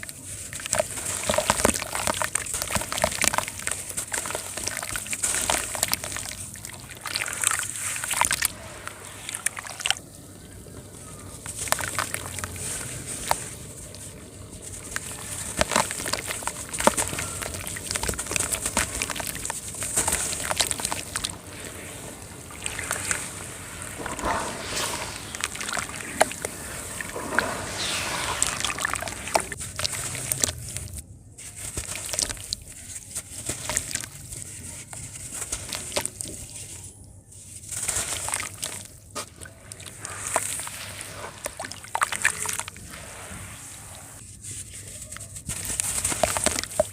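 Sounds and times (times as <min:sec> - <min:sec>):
water sloshing and splashing: 0:00.0 - 0:36.8, 0:37.4 - 0:44.3.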